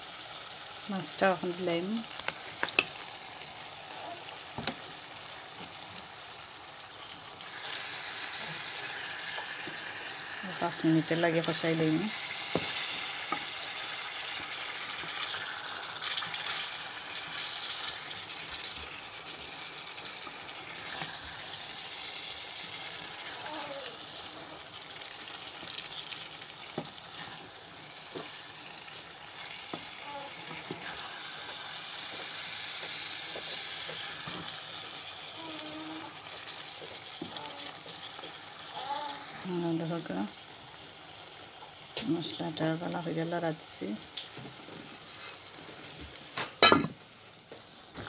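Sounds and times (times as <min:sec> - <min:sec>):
fish sizzling in a pot: 0:00.0 - 0:48.0.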